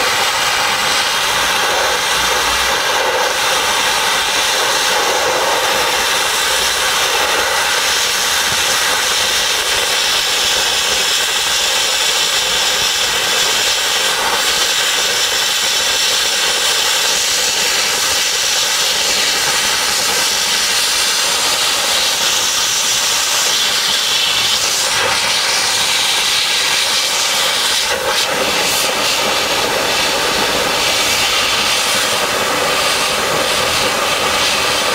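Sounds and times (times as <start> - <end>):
dry ice blasting hiss: 0.0 - 34.9.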